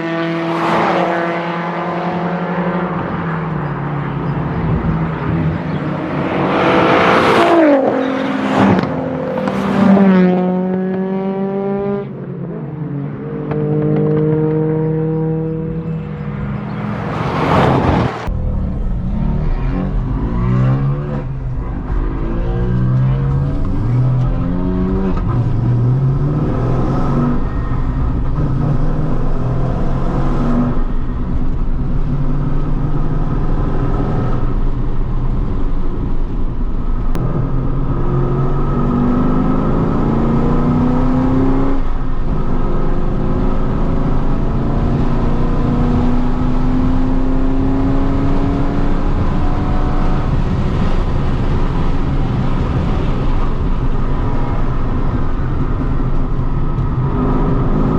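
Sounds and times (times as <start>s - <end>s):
car engine accelerating hard: 0.0s - 12.1s, 13.4s - 57.9s.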